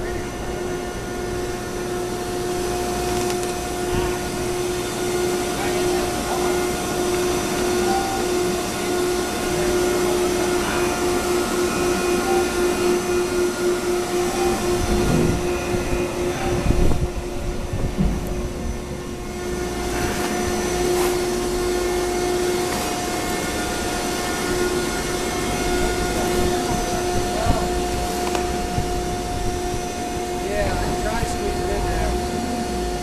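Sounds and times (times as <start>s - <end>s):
heavy machinery droning: 0.0s - 33.0s.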